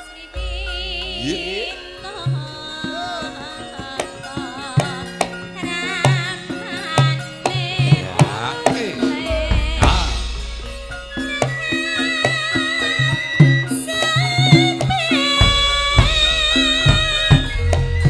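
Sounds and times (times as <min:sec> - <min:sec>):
high wavering singing: 0:00.0 - 0:18.0
held metallic tone: 0:00.3 - 0:18.0
hand drum strokes: 0:00.4 - 0:18.0.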